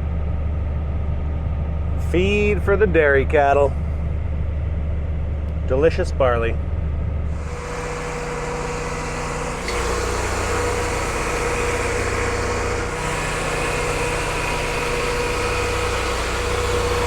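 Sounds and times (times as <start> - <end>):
truck engine running: 1.9 - 17.0.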